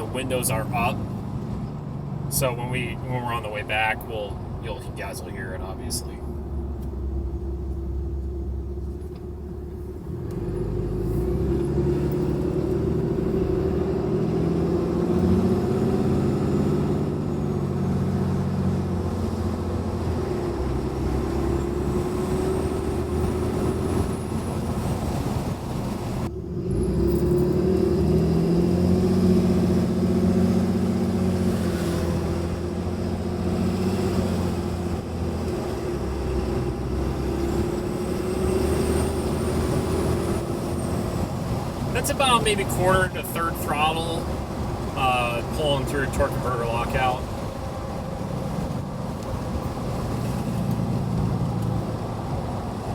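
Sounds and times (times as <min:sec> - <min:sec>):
diesel truck engine accelerating: 0:00.0 - 0:52.9.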